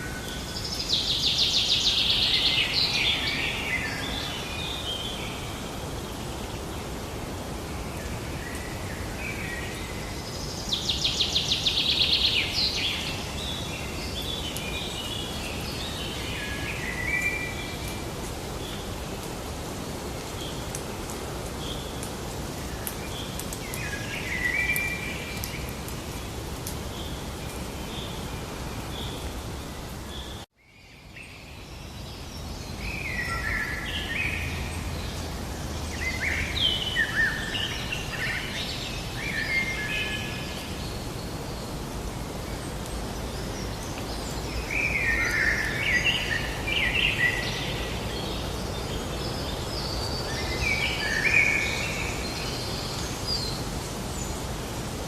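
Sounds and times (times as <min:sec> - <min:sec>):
outdoor ambience hiss: 0:00.0 - 0:55.0
songbirds chirping: 0:00.0 - 0:55.0.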